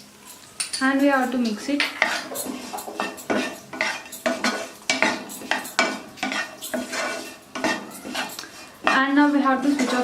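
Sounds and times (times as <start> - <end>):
spatula scraping frying pan: 0.1 - 10.0.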